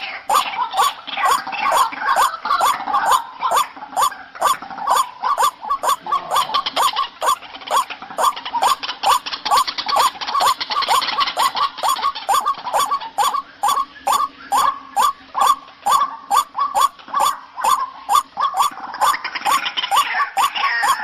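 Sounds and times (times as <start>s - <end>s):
bird calling with repeated croaks: 0.0s - 21.0s.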